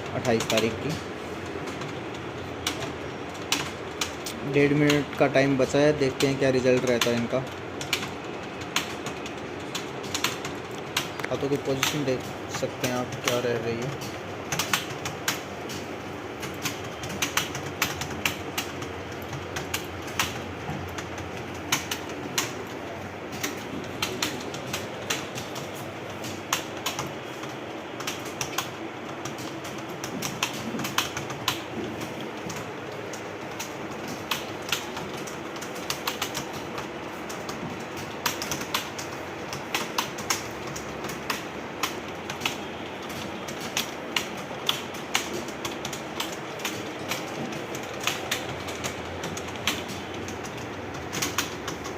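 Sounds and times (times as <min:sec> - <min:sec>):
keyboard typing: 0:00.0 - 0:51.9
room hum: 0:00.0 - 0:51.9.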